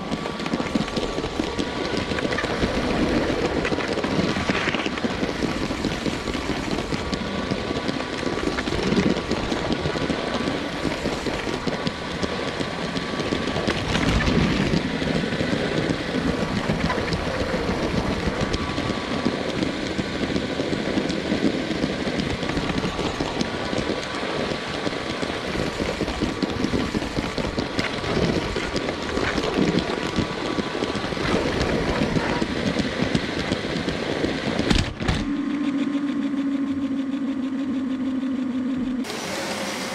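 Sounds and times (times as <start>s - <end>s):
wheels clicking over track joints: 0.0s - 35.5s.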